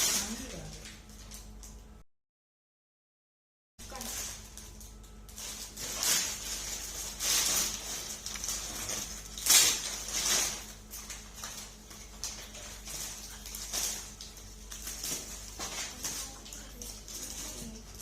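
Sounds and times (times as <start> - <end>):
gift packaging rustling and tearing: 0.0 - 1.6, 3.8 - 18.0.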